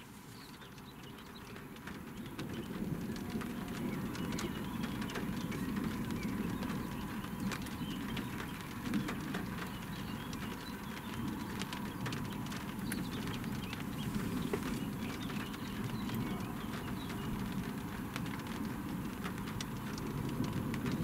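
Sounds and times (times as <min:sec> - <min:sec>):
raindrops tapping on car roof: 0:00.0 - 0:21.0.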